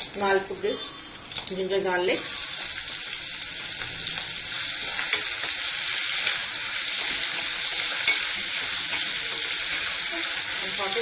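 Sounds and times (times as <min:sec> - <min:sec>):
garlic frying in hot oil: 0:00.0 - 0:11.0.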